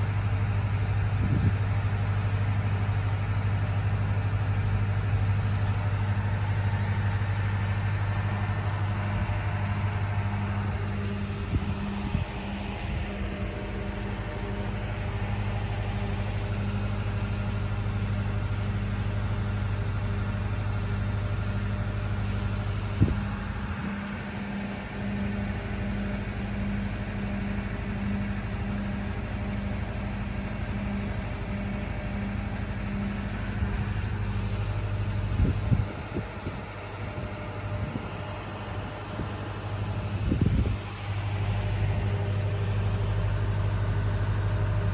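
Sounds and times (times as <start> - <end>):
engine humming: 0.0 - 44.9.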